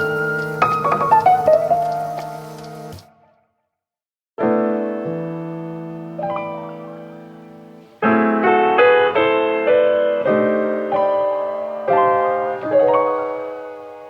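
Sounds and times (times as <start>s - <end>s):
soft piano melody: 0.0s - 3.2s, 4.4s - 14.0s.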